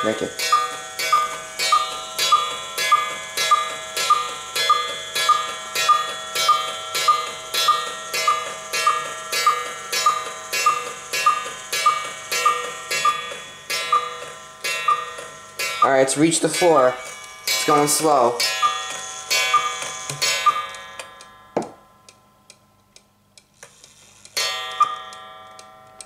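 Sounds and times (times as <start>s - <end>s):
cuckoo clock cuckooing: 0.0s - 21.3s, 24.4s - 26.0s.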